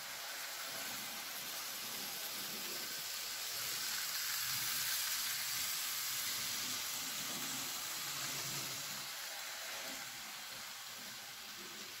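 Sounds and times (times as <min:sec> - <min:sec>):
model train wheels whirring: 0:00.0 - 0:12.0.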